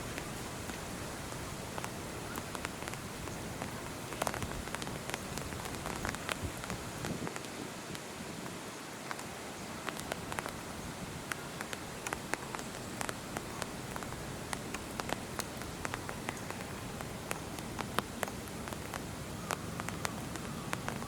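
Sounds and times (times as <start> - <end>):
raindrops ticking on surface: 0.0 - 21.0
steady rain hiss: 0.0 - 21.0.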